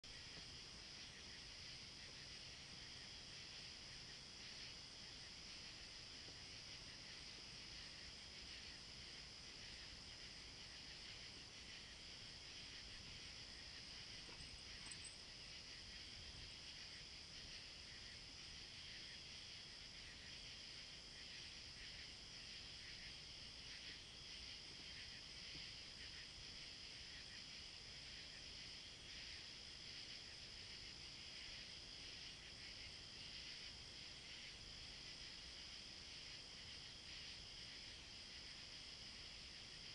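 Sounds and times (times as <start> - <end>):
faint high-pitched hiss: 0.0 - 39.9.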